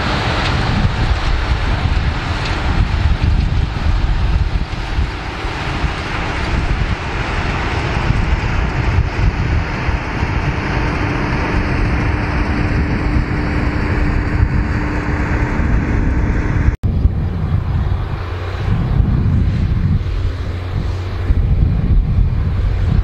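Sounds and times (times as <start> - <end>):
tractor engine and implement drone: 0.0 - 23.0
wind buffeting microphone: 0.0 - 23.0.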